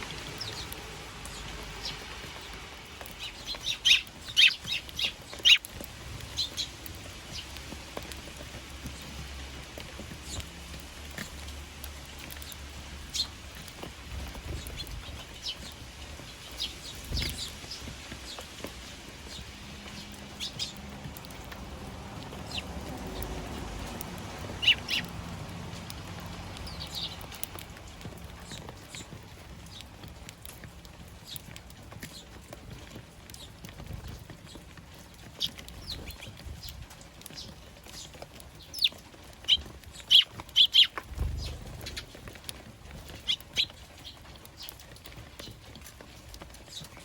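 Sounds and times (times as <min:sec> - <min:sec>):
rain pattering: 0:00.0 - 0:47.0
sparrows chirping: 0:00.0 - 0:47.0.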